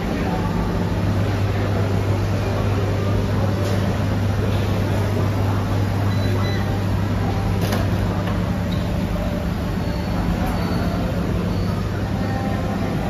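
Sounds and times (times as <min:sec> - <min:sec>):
hum of fans and ventilation: 0:00.0 - 0:13.0.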